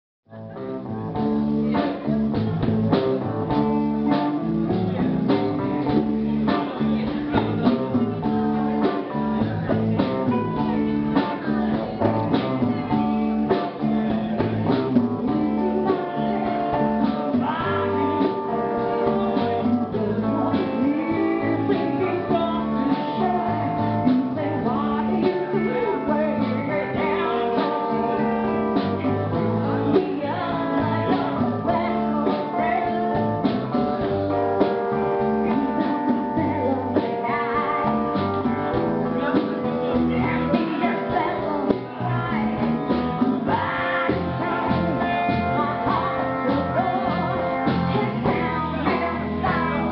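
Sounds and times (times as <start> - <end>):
electric guitar: 0.3 - 49.9
live band playing: 0.3 - 49.9.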